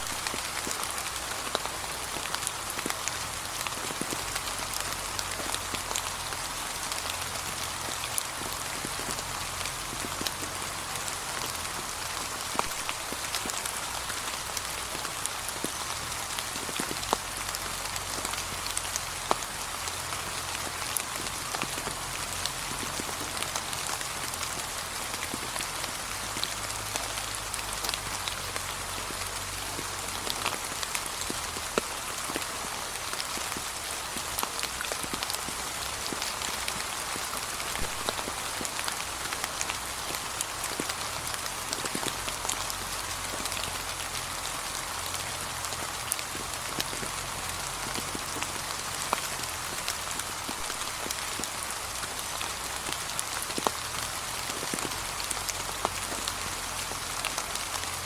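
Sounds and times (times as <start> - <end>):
close raindrop hits: 0.0 - 58.0
light rain hissing: 0.0 - 58.0.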